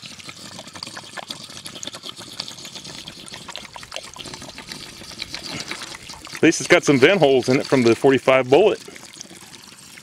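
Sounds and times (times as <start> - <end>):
water trickling onto grass: 0.0 - 10.0.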